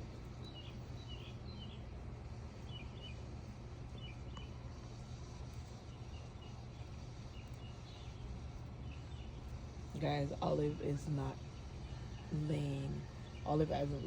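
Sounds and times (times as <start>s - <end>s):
low outdoor rumble: 0.0s - 14.0s
small birds chirping: 0.0s - 14.0s.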